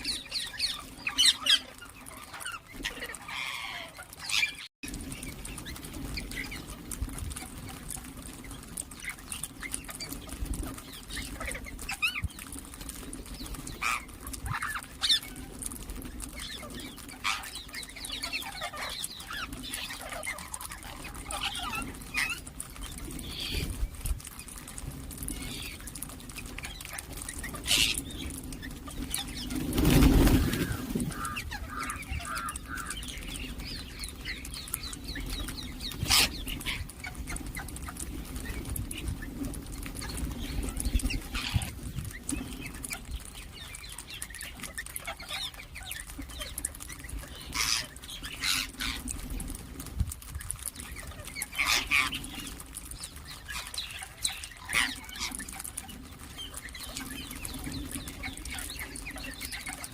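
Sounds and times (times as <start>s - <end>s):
parakeets chirping: 0.0s - 49.4s, 50.3s - 59.9s.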